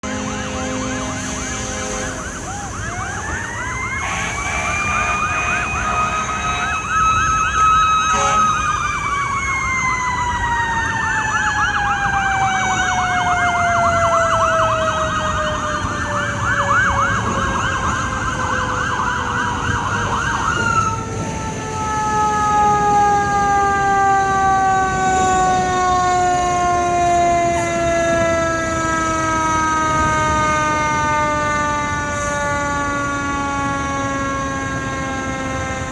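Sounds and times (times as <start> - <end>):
electronic siren sweeping: 0.0 - 35.9.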